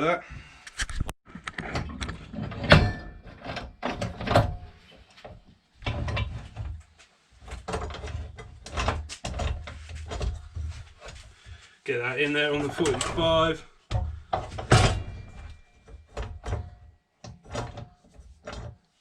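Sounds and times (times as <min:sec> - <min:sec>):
metal clunks and scrapes: 0:00.6 - 0:11.7, 0:12.4 - 0:18.9.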